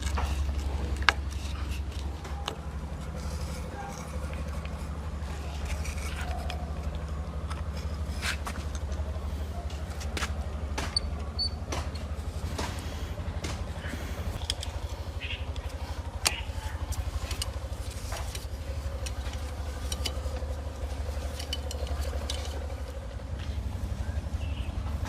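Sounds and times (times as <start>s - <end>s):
sharp metallic clicks and knocks: 0.0s - 23.5s
machine pulsing low drone: 0.0s - 25.0s.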